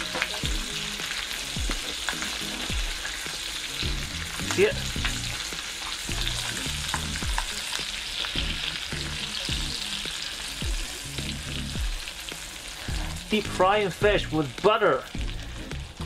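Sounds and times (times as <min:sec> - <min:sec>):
fish sizzling in butter: 0:00.0 - 0:16.0.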